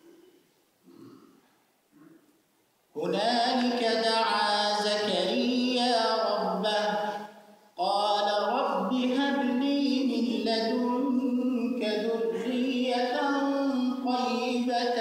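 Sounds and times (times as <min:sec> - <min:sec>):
man chanting melodic recitation: 0:03.0 - 0:15.0.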